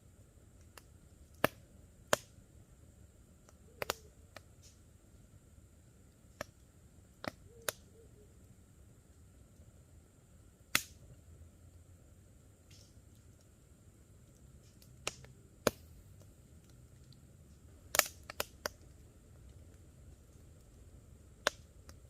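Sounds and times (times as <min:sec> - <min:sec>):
campfire wood crackling: 0:00.0 - 0:22.0.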